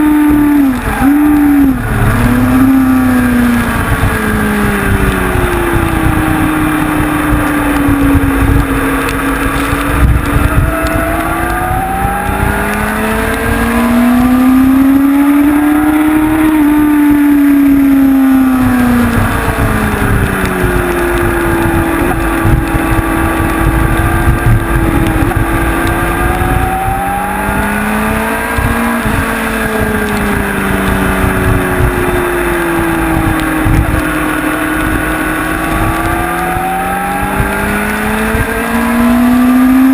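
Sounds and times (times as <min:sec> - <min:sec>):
motorcycle engine revving: 0:00.0 - 0:39.9
rushing wind noise: 0:00.0 - 0:39.9.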